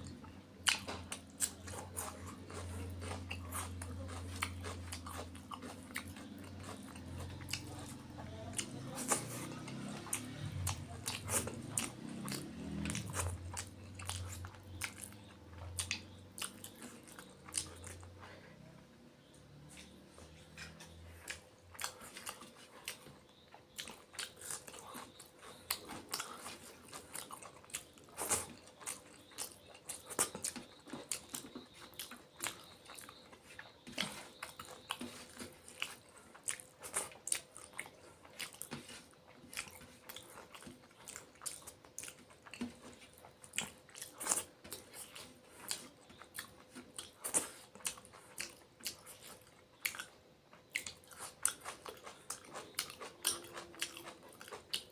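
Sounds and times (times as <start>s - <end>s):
chewing and mouth smacking: 0.0s - 18.4s, 19.2s - 54.9s.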